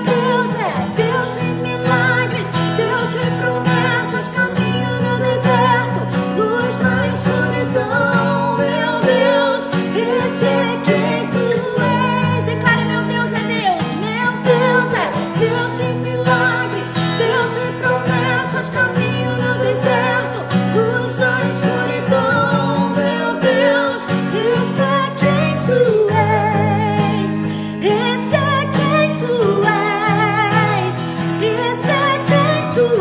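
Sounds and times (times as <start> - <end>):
acoustic guitar: 0.0 - 33.0
woman singing with vibrato: 0.0 - 33.0.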